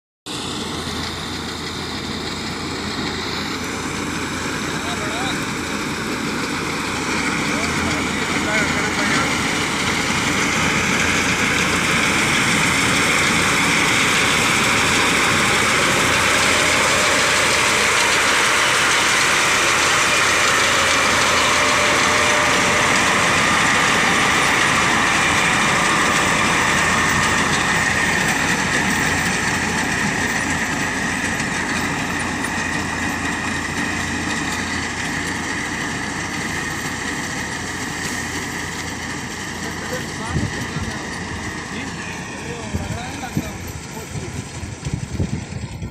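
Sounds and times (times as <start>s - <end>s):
tractor diesel engine running: 0.3s - 45.9s.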